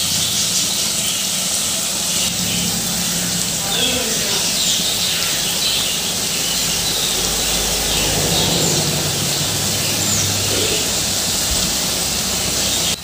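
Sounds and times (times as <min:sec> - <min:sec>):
dough deep-frying in oil: 0:00.0 - 0:13.0.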